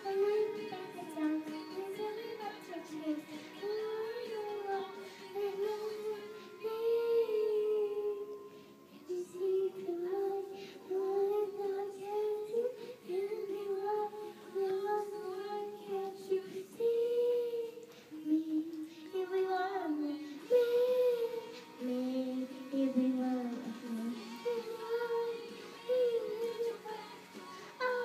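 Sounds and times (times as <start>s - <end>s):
girl singing held notes: 0.0s - 28.0s.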